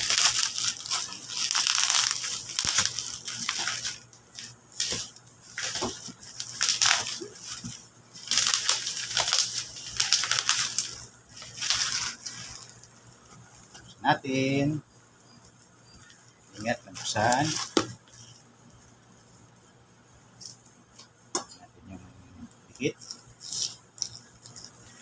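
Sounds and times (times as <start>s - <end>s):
bubble wrap crinkling: 0.0s - 13.9s, 14.7s - 19.7s, 22.8s - 25.0s.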